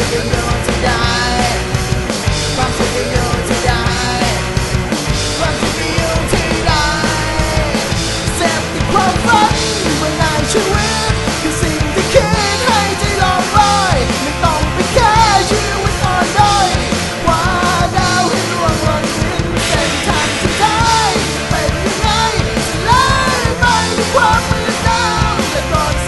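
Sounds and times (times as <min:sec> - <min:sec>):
person singing: 0:00.0 - 0:01.7, 0:02.5 - 0:04.6, 0:05.3 - 0:26.0
alternative rock band: 0:00.0 - 0:26.0.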